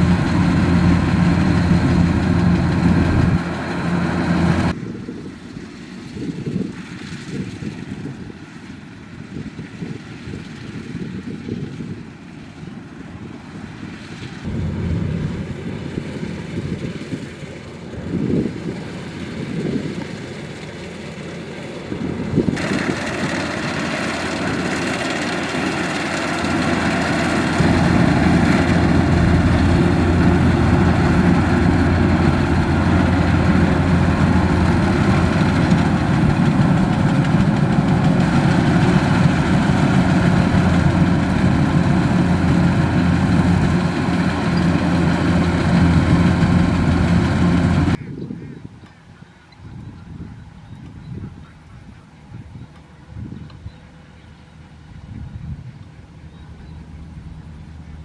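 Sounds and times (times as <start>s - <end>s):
combine harvester engine running: 0.0s - 48.0s, 52.7s - 58.0s.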